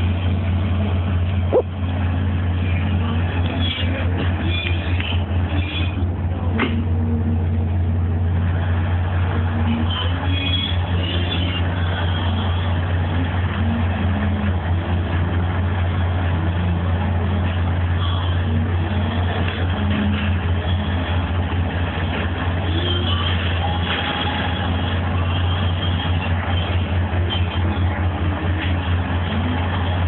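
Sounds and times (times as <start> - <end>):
boat engine deep drone: 0.0 - 30.0
constant rushing noise: 0.0 - 30.0.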